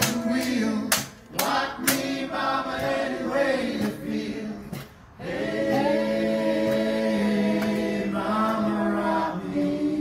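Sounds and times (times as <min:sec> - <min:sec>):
voices singing in harmony: 0:00.0 - 0:10.0.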